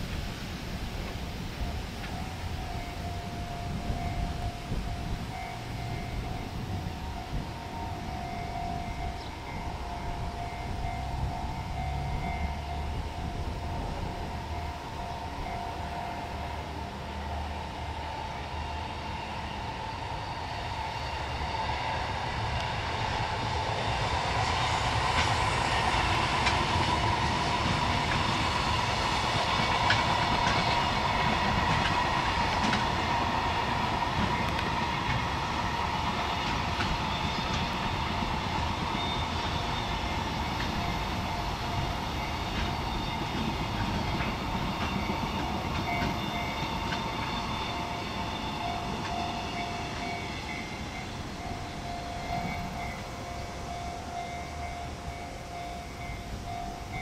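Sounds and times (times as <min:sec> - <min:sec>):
freight train wagons clattering: 0:00.0 - 0:57.0.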